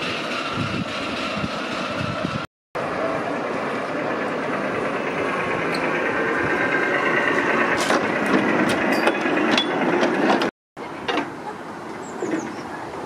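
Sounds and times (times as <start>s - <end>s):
miniature locomotive running: 0.0s - 10.5s.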